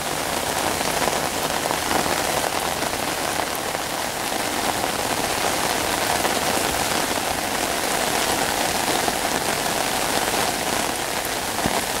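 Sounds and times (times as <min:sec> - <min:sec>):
louder raindrops: 0:00.0 - 0:12.0
rain falling on pavement: 0:00.0 - 0:12.0.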